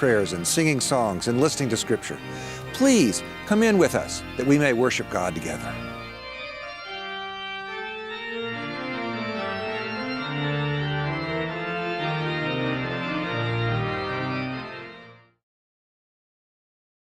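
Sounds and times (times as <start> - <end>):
organ playing sustained chords: 0.0 - 15.4.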